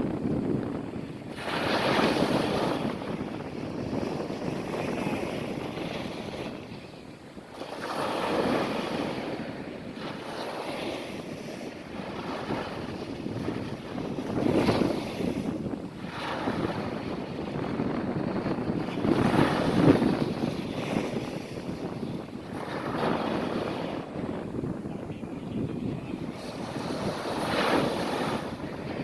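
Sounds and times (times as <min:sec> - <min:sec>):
ocean waves breaking on beach: 0:00.0 - 0:29.0.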